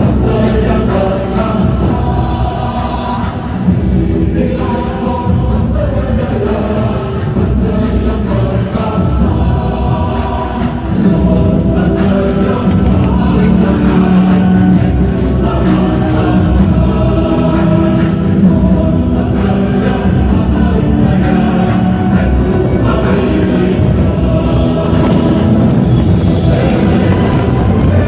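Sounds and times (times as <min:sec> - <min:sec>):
group of voices chanting: 0:00.0 - 0:28.0.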